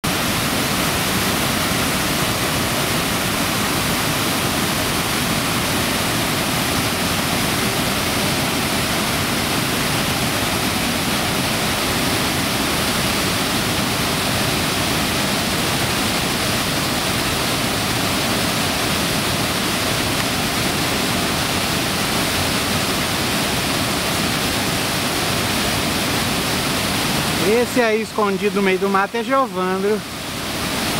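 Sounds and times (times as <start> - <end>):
waterfall rushing into pool: 0.0 - 30.9.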